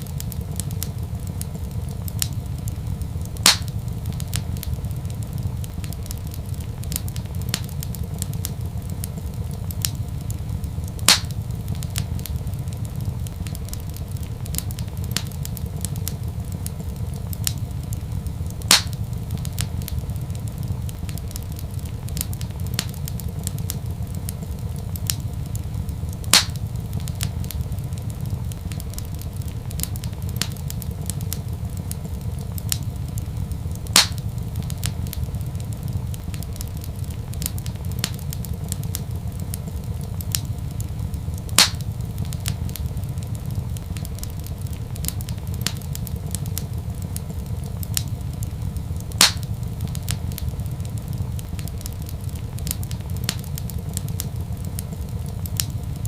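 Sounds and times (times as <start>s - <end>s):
loud sharp fire pops: 0.0s - 56.0s
wood fire crackling: 0.0s - 56.0s.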